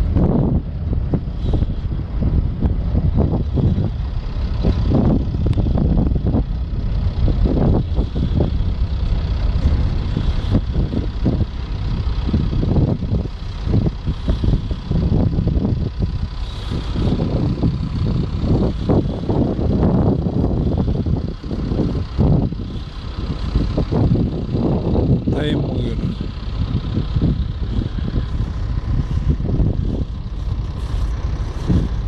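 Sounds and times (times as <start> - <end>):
ship engine low rumble: 0.0 - 32.0.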